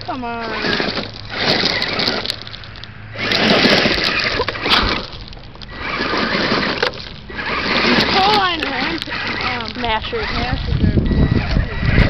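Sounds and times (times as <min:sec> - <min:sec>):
rc truck motors running: 0:00.0 - 0:12.0
tyres churning gravel: 0:00.0 - 0:12.0.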